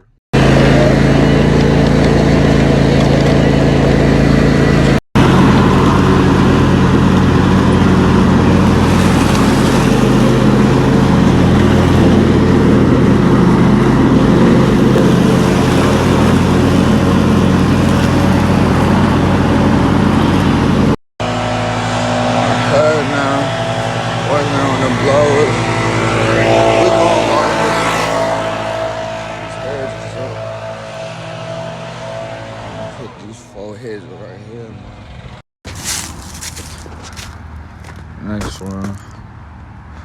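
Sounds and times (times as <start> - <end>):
small gasoline engine running: 0.4 - 33.1, 34.9 - 38.0.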